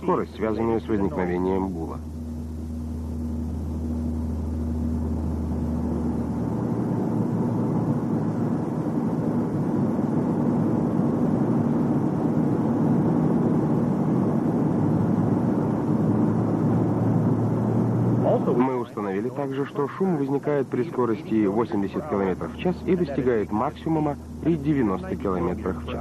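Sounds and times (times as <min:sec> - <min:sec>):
low hum: 0:00.0 - 0:26.0
car road noise inside cabin: 0:01.8 - 0:26.0.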